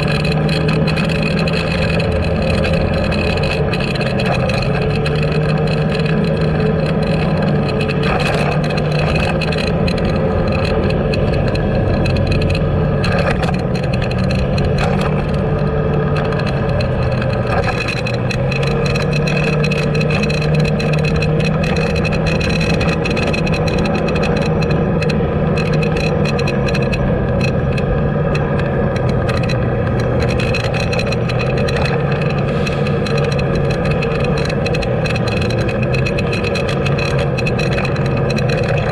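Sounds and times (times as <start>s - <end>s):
road noise: 0.0s - 38.9s
vehicle engine running: 0.0s - 38.9s.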